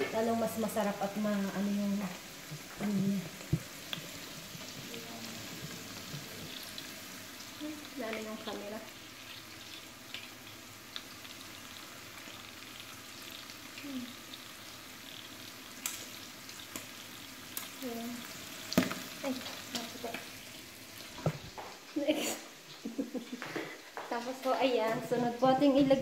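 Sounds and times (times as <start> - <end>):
meat and onions sizzling in fat: 0.0 - 26.0.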